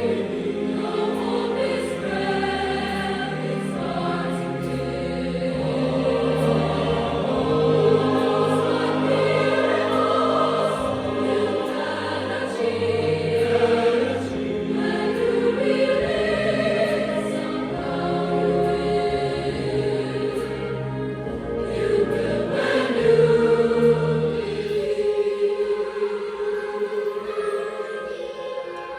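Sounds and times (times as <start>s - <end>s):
choir singing sustained chords: 0.0s - 28.9s.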